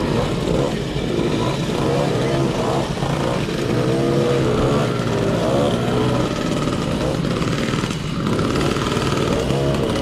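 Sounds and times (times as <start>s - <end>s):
moped engines revving: 0.0s - 10.0s.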